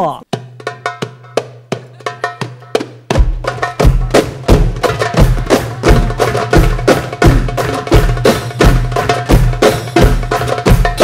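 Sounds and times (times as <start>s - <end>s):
goblet drum rhythm: 0.0s - 11.0s.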